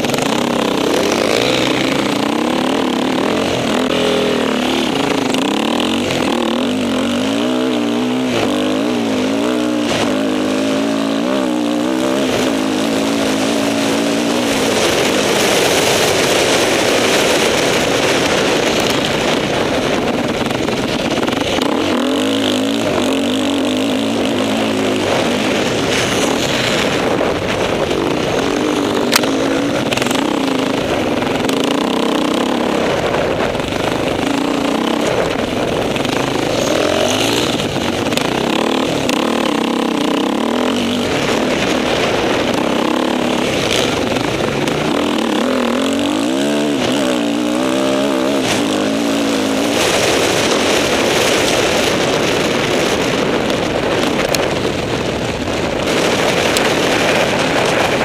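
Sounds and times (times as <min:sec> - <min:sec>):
constant rushing noise: 0:00.0 - 0:58.0
motorcycle engine revving: 0:00.0 - 0:58.0.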